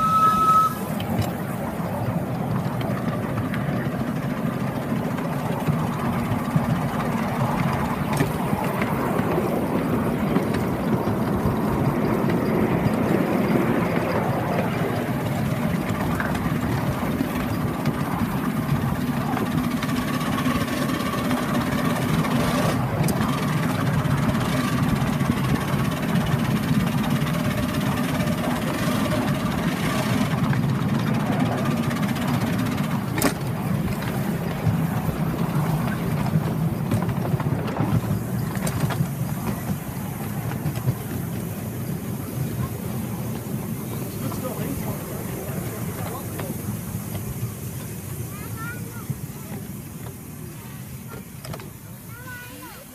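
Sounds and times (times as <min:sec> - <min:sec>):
miniature train engine hum: 0:00.0 - 0:52.9
sharp clicks from wheels: 0:00.0 - 0:52.9
wheel and rail noise: 0:00.0 - 0:52.9.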